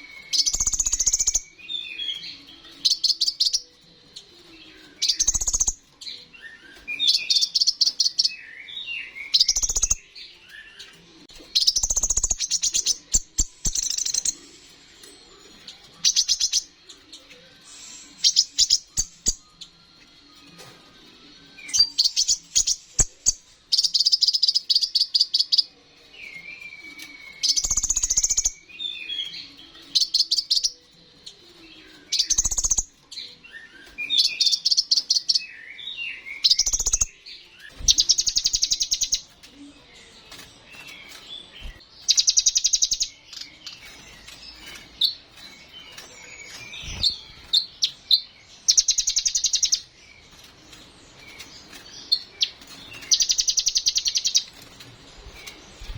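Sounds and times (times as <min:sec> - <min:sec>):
sunbird singing buzzy trills: 0:00.0 - 0:20.6, 0:21.2 - 0:55.9.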